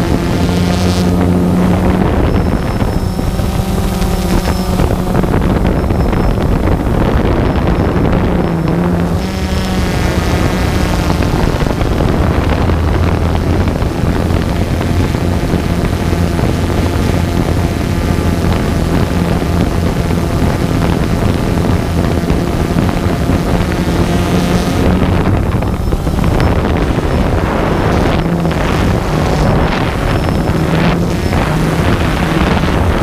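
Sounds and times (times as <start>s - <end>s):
drone motors humming: 0.0s - 33.0s
wind noise on microphone: 0.0s - 33.0s.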